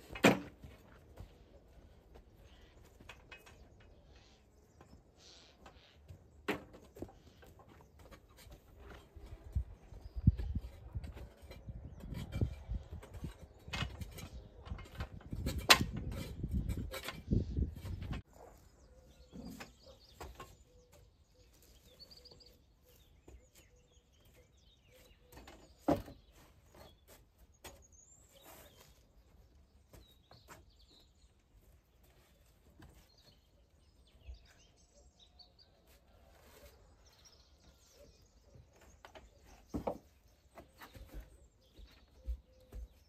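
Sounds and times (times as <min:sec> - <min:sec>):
birds chirping: 0:00.8 - 0:43.0.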